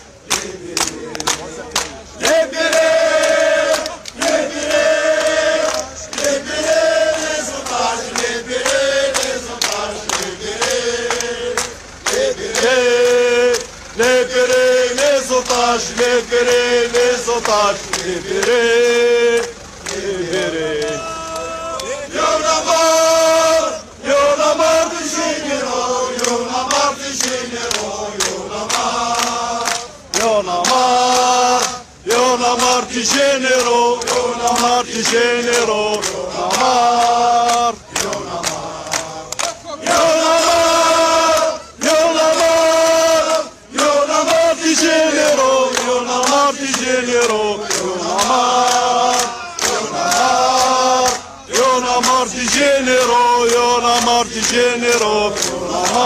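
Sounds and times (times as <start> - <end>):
crowd chanting slogans: 0.0 - 56.0.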